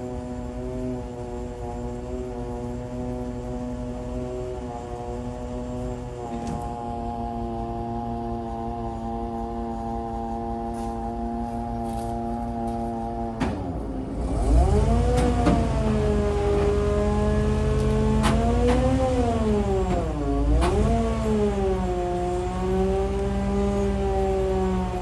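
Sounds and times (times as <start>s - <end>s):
engine running under changing load: 0.0s - 25.0s.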